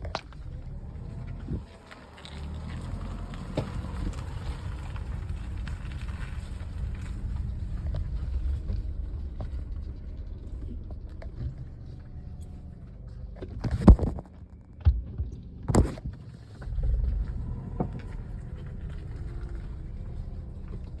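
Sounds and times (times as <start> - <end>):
car running low and steady: 0.0 - 21.0.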